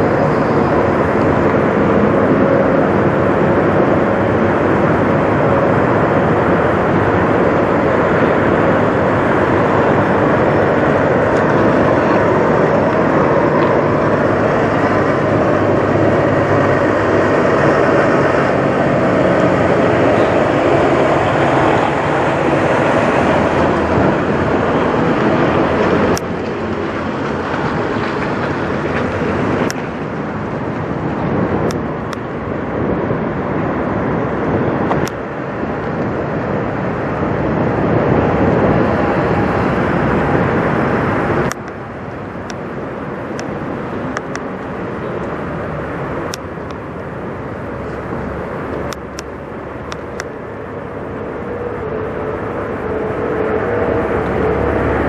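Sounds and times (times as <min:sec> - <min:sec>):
diesel truck engines idling: 0:00.0 - 0:55.0.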